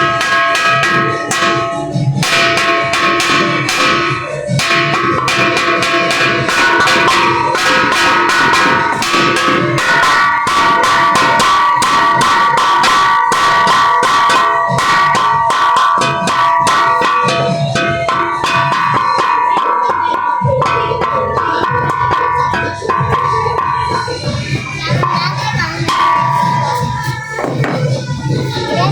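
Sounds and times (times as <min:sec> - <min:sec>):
bells ringing: 0:00.0 - 0:28.9.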